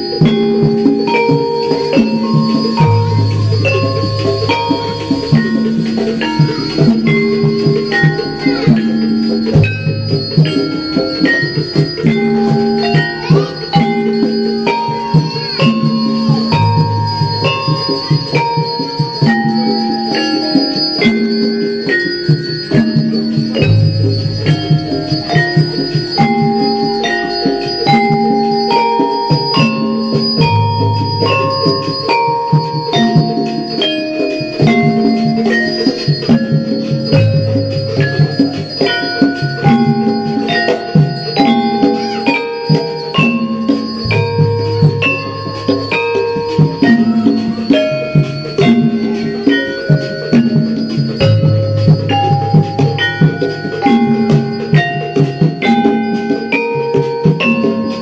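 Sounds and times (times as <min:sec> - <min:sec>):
gamelan music: 0:00.0 - 0:58.0.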